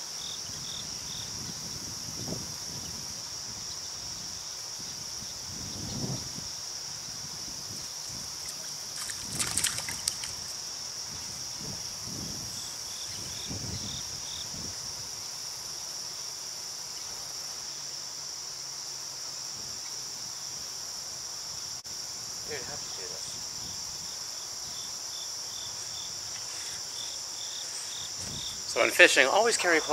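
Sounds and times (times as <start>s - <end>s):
insects chirping: 0.0s - 29.9s.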